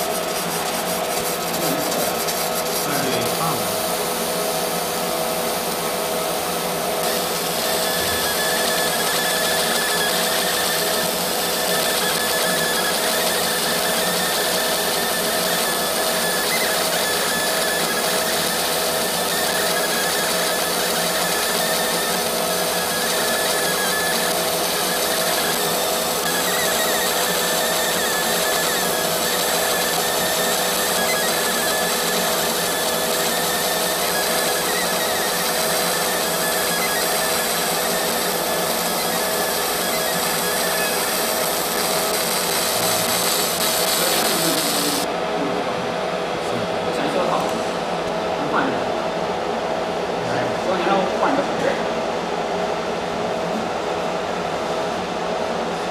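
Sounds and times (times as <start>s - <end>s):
laser marking machine whirring: 0.0s - 48.7s.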